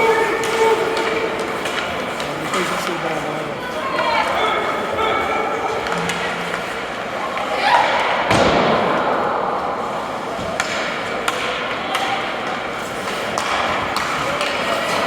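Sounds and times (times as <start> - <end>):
arena crowd murmur: 0.0 - 15.0.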